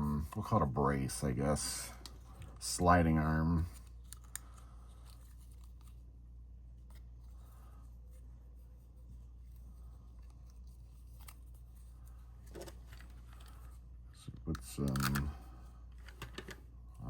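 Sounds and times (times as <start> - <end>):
handling card paper: 0.0 - 13.8, 14.4 - 16.5
steady low hum: 0.0 - 17.0.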